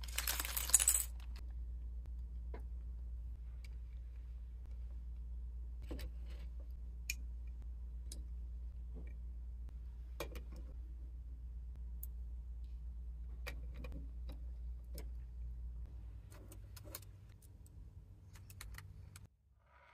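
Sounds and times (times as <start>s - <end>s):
steady low hum: 0.1s - 19.6s.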